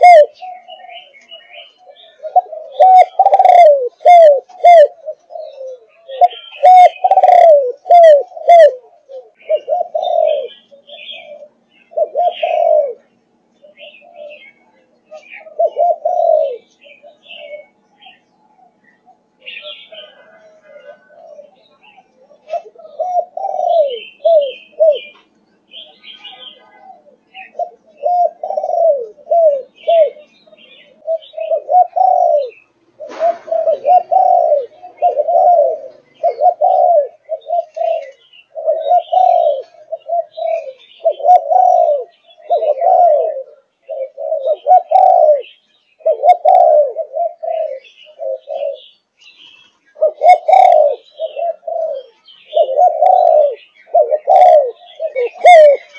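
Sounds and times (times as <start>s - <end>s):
dove cooing: 0.0s - 55.9s
small birds chirping: 0.0s - 55.9s.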